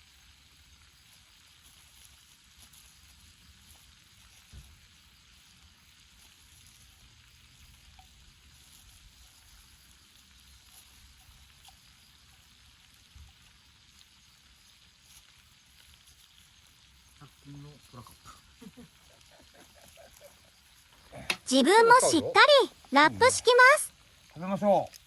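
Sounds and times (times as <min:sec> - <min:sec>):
meat sizzling on a griddle: 0:00.0 - 0:21.3, 0:23.9 - 0:25.0
small ticks: 0:00.0 - 0:21.5, 0:23.9 - 0:25.0.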